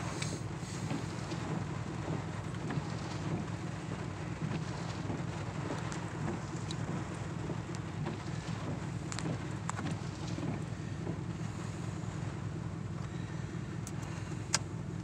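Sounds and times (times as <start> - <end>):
storm rain and wind rumble: 0.0 - 15.0.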